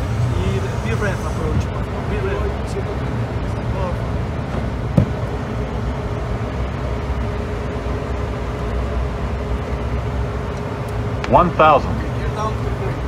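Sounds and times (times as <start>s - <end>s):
jet cockpit rumble: 0.0s - 13.0s.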